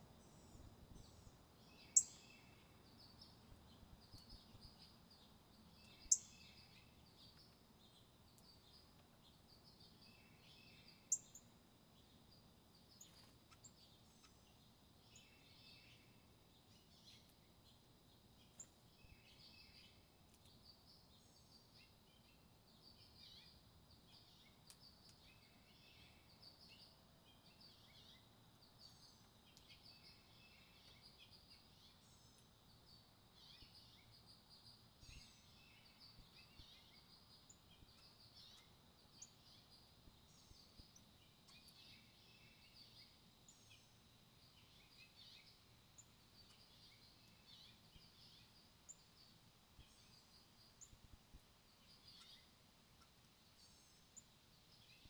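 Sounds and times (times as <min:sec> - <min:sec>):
low background hiss: 0:00.0 - 0:55.0
songbirds chirping faintly: 0:00.0 - 0:55.0.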